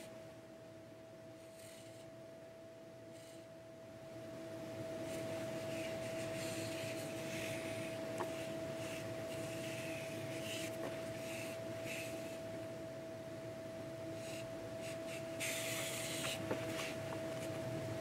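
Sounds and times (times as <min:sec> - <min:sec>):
faint humming tone: 0:00.0 - 0:18.0.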